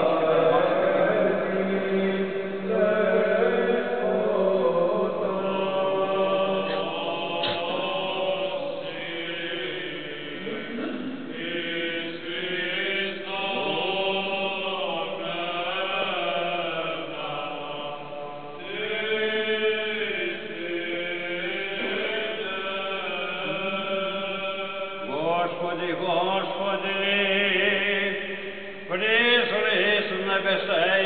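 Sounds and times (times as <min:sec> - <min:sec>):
voices chanting: 0:00.0 - 0:28.3.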